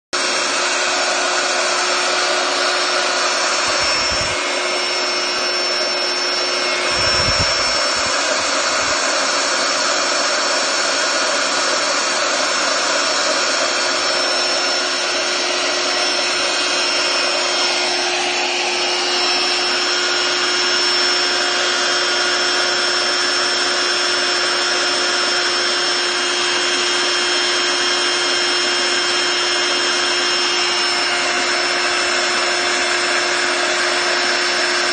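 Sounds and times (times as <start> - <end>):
electric inflator pump running: 0.2 - 34.9.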